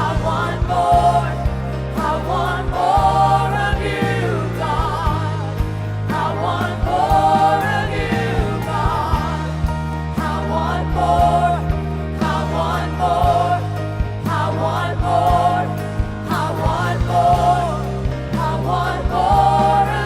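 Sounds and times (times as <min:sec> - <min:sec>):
sustained low chords: 0:00.0 - 0:20.0.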